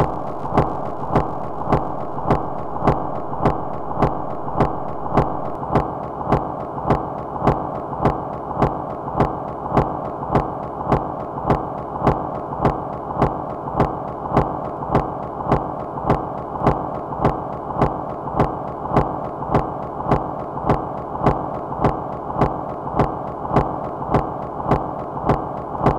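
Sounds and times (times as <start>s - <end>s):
repetitive sharp clicks: 0.0s - 25.9s
steady band of noise: 0.0s - 25.9s.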